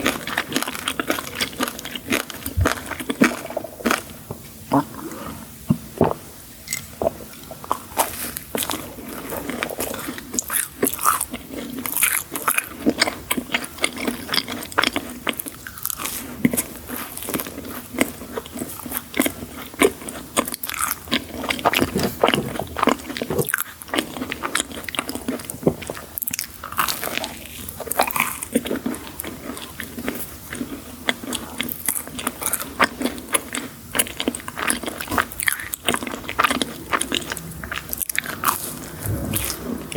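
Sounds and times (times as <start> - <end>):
crunchy sweets being chewed: 0.0 - 39.9.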